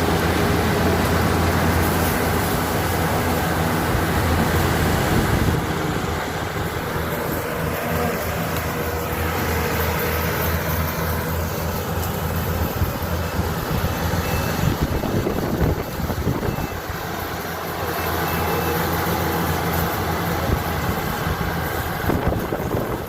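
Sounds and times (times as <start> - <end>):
harvesting machine engine running: 0.0 - 23.0.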